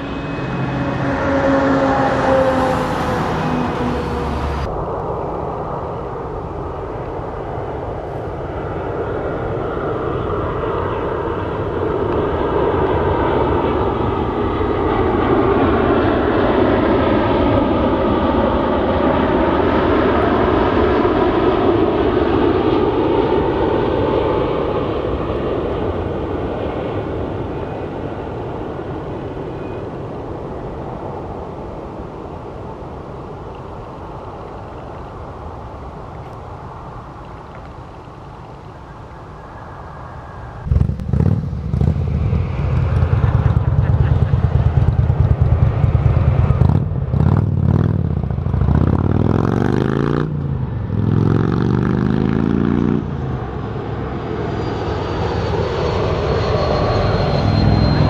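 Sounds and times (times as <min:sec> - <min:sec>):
jet engines rumbling past: 0:00.0 - 0:49.4, 0:50.0 - 0:52.0, 0:52.8 - 0:58.0.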